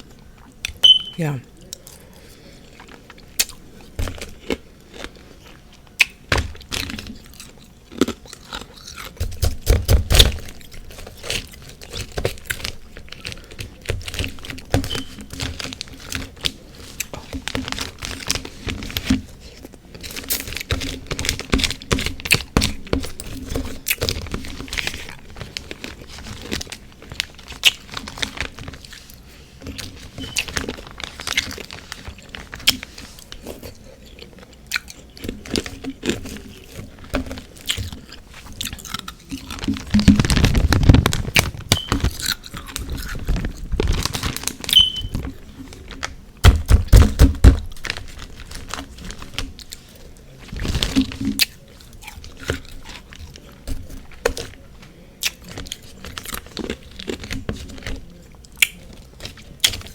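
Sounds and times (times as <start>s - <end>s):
crunching and chewing ice: 1.8s - 59.9s.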